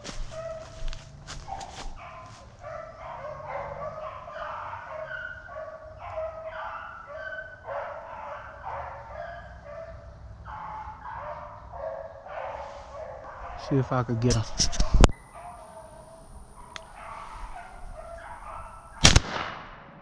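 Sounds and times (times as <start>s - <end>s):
pack of beagles baying: 0.0s - 19.0s.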